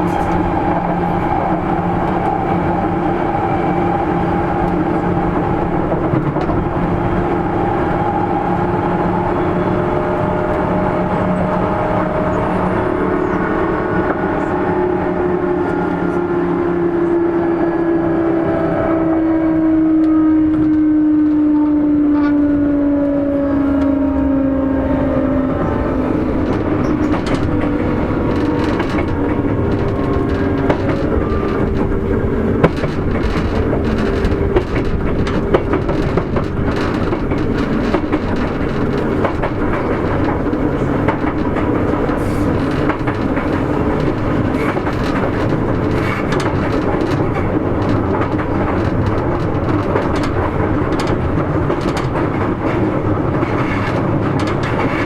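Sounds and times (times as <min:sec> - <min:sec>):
wheels clicking over rail joints: 0:00.0 - 0:16.3, 0:22.2 - 0:55.0
train inverter tones: 0:00.0 - 0:55.0
train rolling noise: 0:00.0 - 0:55.0.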